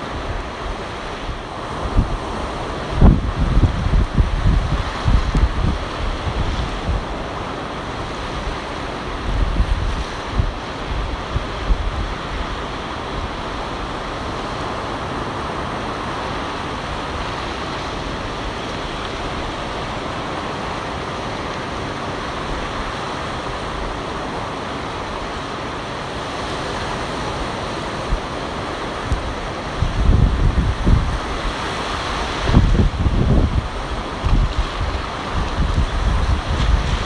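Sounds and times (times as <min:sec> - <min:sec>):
wind buffeting microphone: 0:00.0 - 0:21.2, 0:26.6 - 0:37.0
ocean surf breaking: 0:00.0 - 0:37.0.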